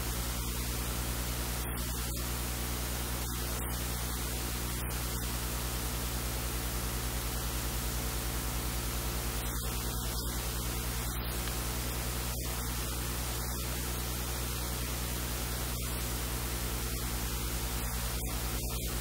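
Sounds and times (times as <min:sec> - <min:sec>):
steady hiss: 0:00.0 - 0:08.0, 0:08.6 - 0:19.0
electrical mains hum: 0:00.0 - 0:19.0.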